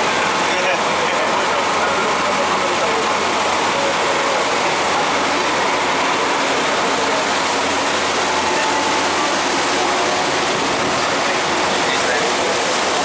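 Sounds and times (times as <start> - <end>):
boat engine running: 0.0 - 13.0
wake water churning: 0.0 - 13.0.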